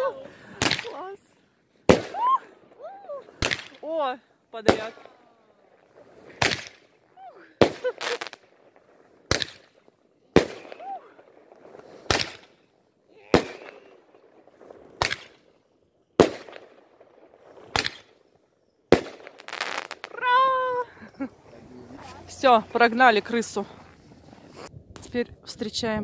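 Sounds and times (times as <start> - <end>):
fireworks bangs: 0.0 - 25.2.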